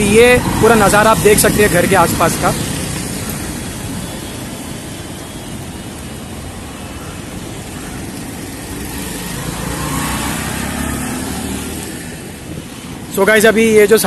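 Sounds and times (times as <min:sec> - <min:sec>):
passing cars rumble: 0:00.0 - 0:14.0.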